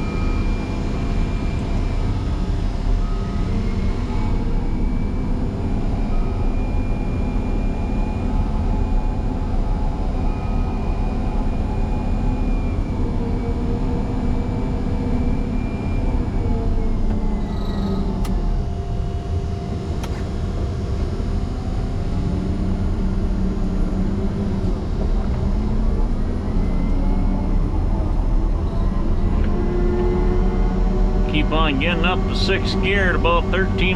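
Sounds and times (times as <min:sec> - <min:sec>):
diesel engine running under load: 0:00.0 - 0:33.9.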